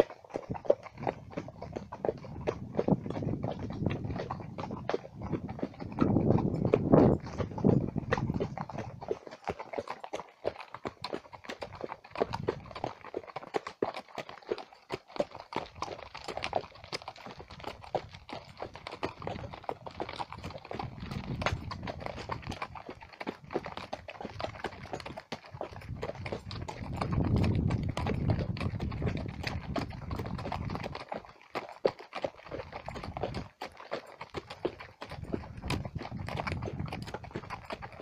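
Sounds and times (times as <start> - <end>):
horse hooves clip-clopping on stony track: 0.0 - 38.0.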